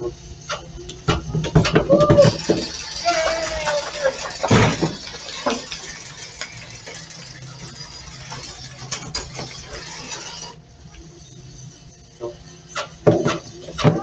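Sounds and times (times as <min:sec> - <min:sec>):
robot motors whirring: 0:00.0 - 0:14.0.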